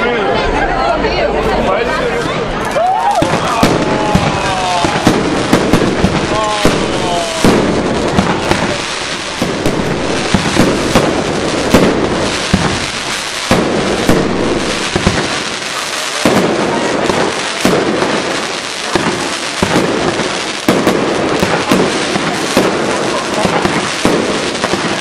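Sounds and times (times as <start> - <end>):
fireworks bangs: 2.8 - 25.0
fireworks crackle and hiss: 2.9 - 25.0.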